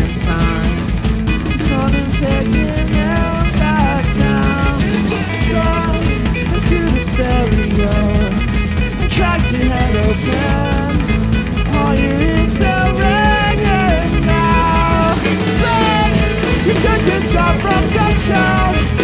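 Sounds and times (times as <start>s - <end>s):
drum kit: 0.0s - 19.0s
guitar melody: 0.0s - 19.0s
rock band playing: 0.0s - 19.0s.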